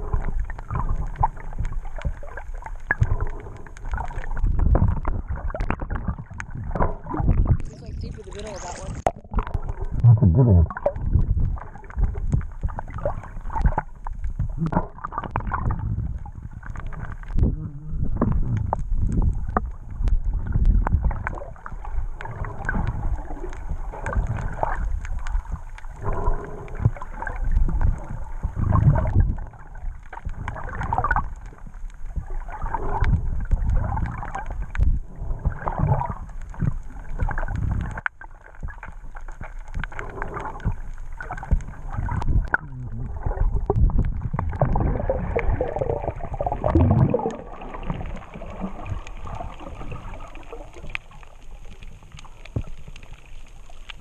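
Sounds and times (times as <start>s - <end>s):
muffled water sloshing and gurgling: 0.0s - 54.0s.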